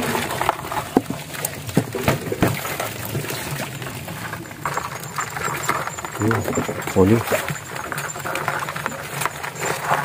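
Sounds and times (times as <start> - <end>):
water splashing from wading: 0.0 - 8.0.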